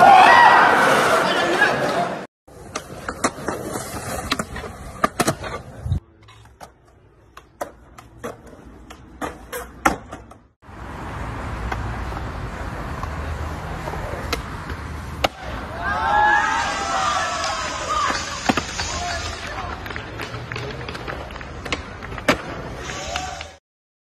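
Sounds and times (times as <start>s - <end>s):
skateboard wheels rolling on concrete: 0.0s - 23.6s.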